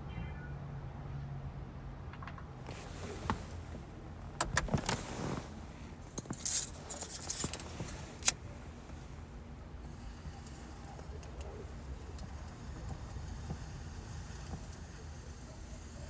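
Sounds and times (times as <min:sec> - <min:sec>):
rattling and rustling: 0:02.6 - 0:16.0.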